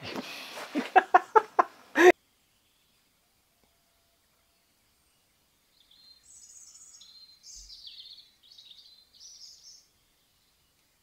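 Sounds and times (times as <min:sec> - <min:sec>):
songbird singing: 0:01.0 - 0:11.0.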